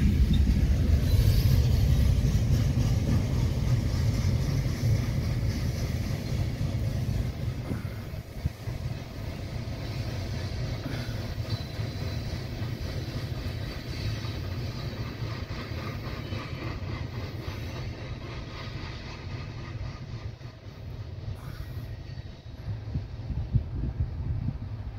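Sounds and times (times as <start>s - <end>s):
freight train wheels rumbling: 0.0s - 24.9s.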